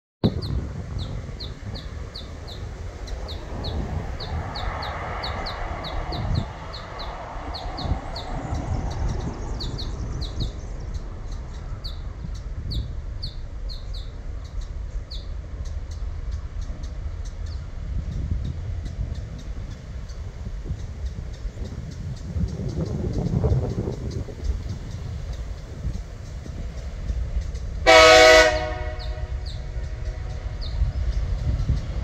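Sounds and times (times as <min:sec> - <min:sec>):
constant low rumble: 0:00.2 - 0:32.0
bird chirping: 0:00.3 - 0:27.8, 0:28.8 - 0:32.0.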